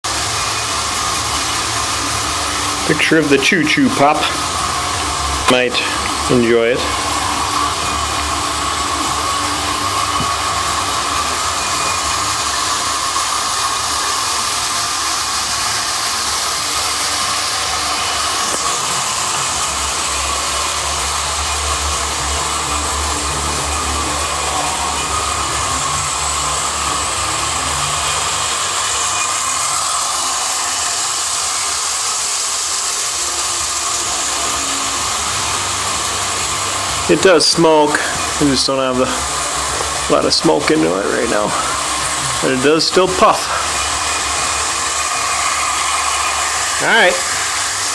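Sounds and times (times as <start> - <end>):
model train whirring: 0.0 - 47.9.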